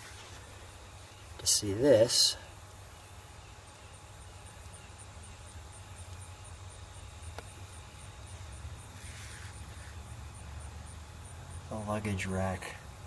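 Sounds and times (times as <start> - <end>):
faint high-pitched pulsing: 0.0 - 13.0
steady low hum: 0.0 - 13.0.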